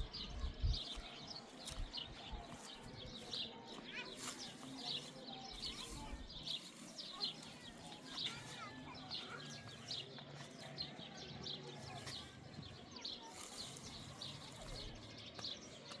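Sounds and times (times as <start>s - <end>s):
faint small birds chirping: 0.0s - 16.0s.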